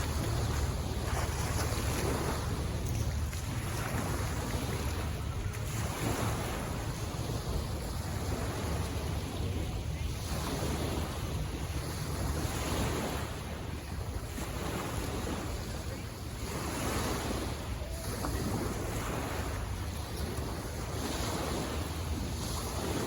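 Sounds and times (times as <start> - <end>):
waves washing onto shore: 0.0 - 23.0
wind rumbling on microphone: 0.0 - 23.0.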